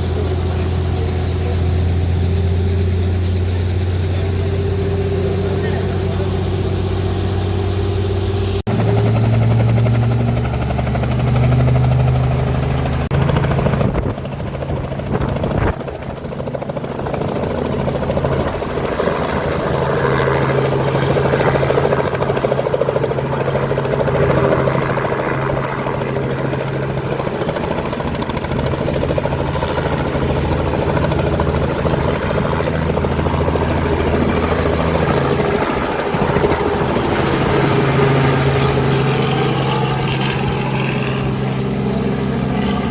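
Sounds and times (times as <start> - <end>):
helicopter rotor and turbine: 0.0 - 42.9.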